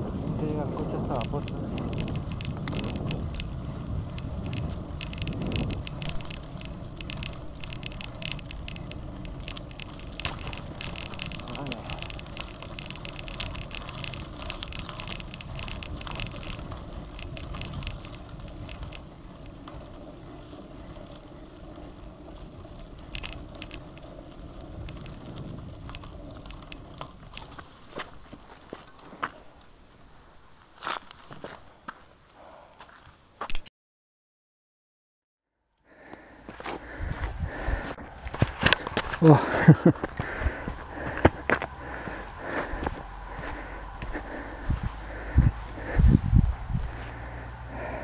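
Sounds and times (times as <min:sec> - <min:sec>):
low wind rumble: 0:00.0 - 0:30.8, 0:35.9 - 0:48.0
bike tyres rattling on gravel: 0:00.0 - 0:32.3, 0:35.9 - 0:48.0.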